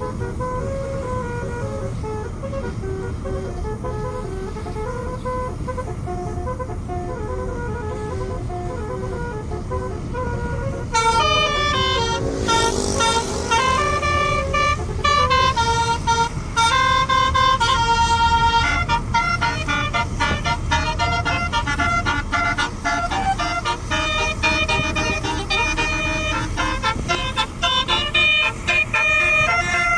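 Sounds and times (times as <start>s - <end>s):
bus horn playing a tune: 0.0s - 29.9s.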